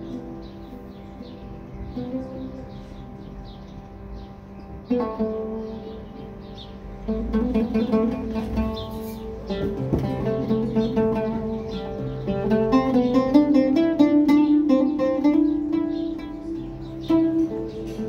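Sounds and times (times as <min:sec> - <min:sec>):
oud tremolo melody: 0:00.0 - 0:18.0.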